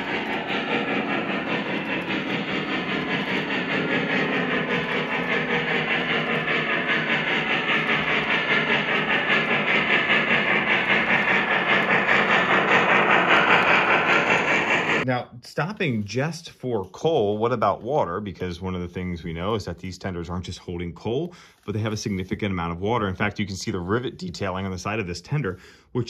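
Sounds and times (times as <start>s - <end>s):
model steam locomotive chuffing: 0.0s - 15.1s, 16.0s - 26.0s
model train wheels on track: 0.0s - 15.1s, 16.0s - 26.0s.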